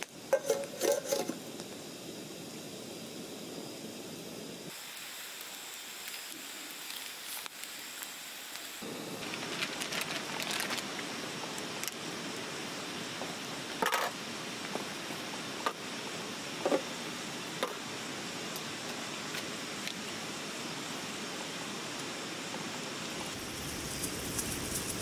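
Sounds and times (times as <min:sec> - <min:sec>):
crackles: 0:00.0 - 0:25.0
gas stove hissing: 0:00.0 - 0:25.0.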